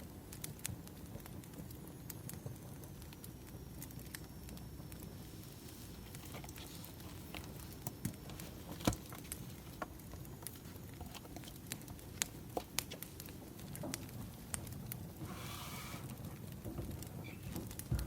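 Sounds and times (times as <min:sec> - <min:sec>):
firewood crackling and popping: 0:00.0 - 0:18.0
low fire rumble: 0:00.0 - 0:18.0.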